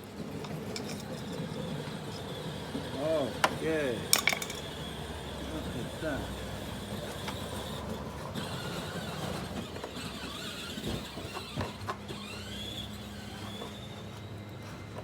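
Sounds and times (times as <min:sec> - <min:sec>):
atv engine humming: 0:00.0 - 0:15.0.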